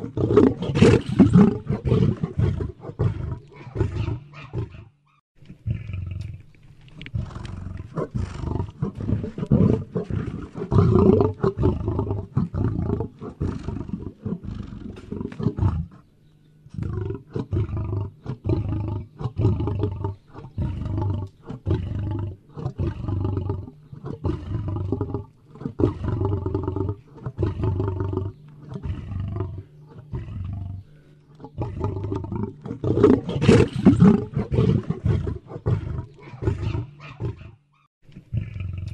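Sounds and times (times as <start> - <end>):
animal vocalizing low and rough: 0.0 - 38.9.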